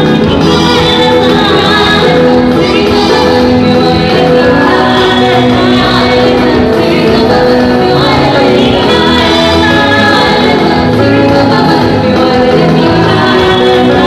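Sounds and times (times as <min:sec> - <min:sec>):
musical accompaniment: 0:00.0 - 0:14.0
woman singing into microphone: 0:00.0 - 0:14.0.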